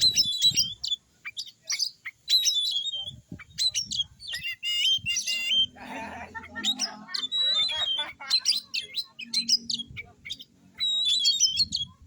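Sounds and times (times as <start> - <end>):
bird singing high whistled notes: 0.0 - 5.8, 6.6 - 12.0.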